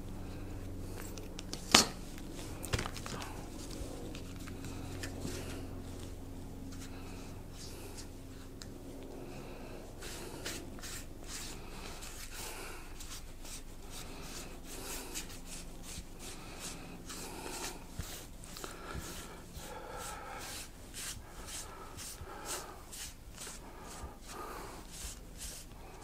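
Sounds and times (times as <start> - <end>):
low electrical hum: 0.0 - 26.0
hands rubbing foam: 0.9 - 6.1, 9.5 - 26.0.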